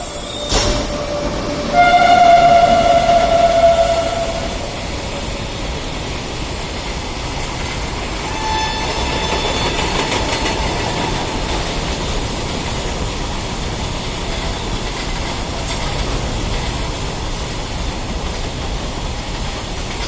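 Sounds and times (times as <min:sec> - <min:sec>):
train wheels rumbling and clattering: 0:00.0 - 0:20.0.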